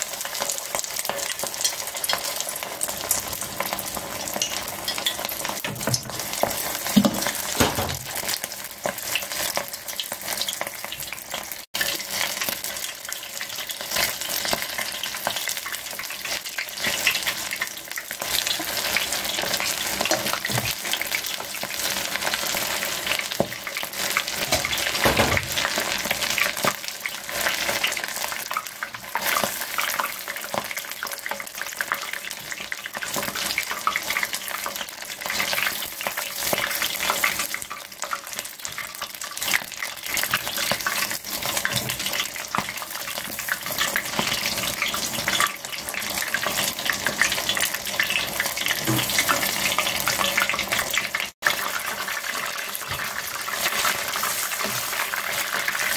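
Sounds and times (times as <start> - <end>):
deep-frying sizzle: 0.0 - 55.9.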